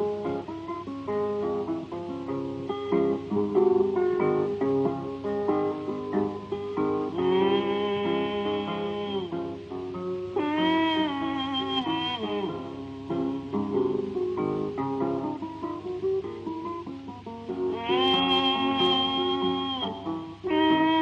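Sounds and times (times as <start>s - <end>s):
acoustic blues guitar: 0.0s - 21.0s.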